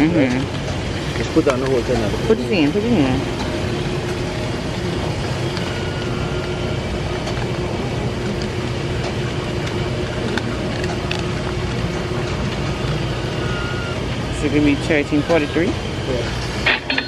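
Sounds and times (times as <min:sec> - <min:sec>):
washers and dryers rumbling: 0:00.0 - 0:17.0.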